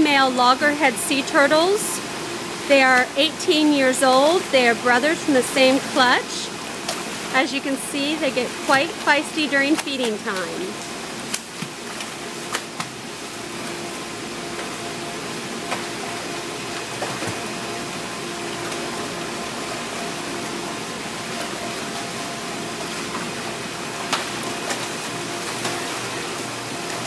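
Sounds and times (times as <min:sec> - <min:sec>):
faint steady hum: 0:00.0 - 0:27.0
water rushing in tank: 0:00.0 - 0:27.0.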